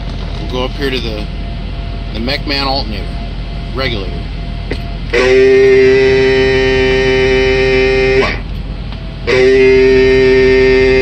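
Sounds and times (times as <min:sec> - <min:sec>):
steady radio tone: 0:00.4 - 0:08.6, 0:09.2 - 0:11.0.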